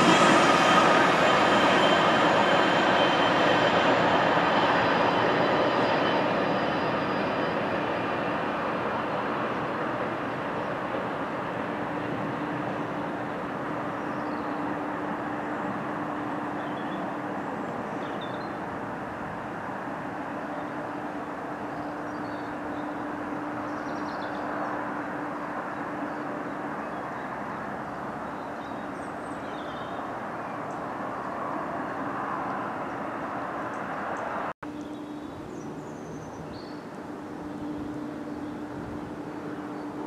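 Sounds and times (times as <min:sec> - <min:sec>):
freight train rumbling: 0:00.0 - 0:40.0.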